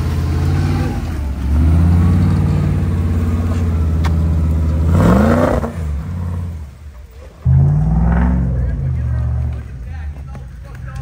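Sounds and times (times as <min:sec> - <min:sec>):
car engine pulling under load: 0:00.0 - 0:11.0.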